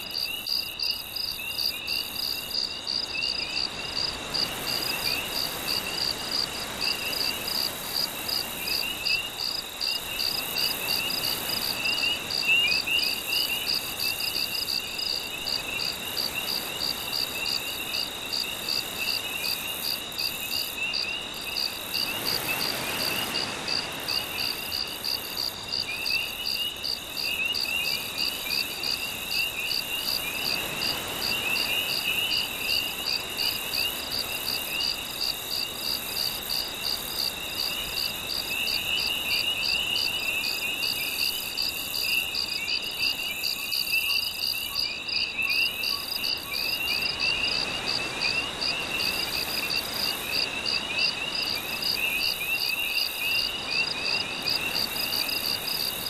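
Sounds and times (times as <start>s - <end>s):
cricket chirping in steady pulse: 0.0s - 56.0s
cricket trilling: 0.0s - 56.0s.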